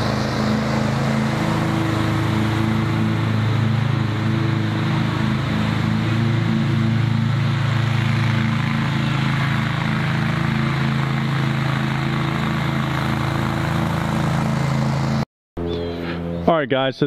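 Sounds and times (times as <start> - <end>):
mower engine running: 0.0 - 16.7.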